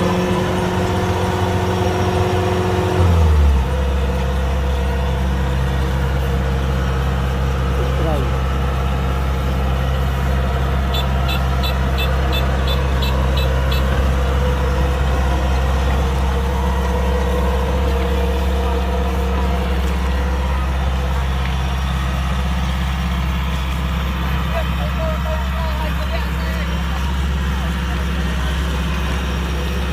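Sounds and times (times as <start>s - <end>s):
combine harvester engine running: 0.0s - 29.9s.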